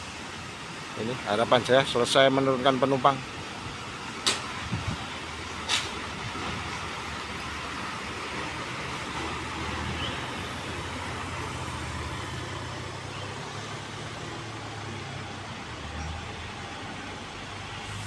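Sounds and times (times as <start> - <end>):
diesel bus engine drone: 0.0 - 18.0
traffic noise: 0.0 - 18.0.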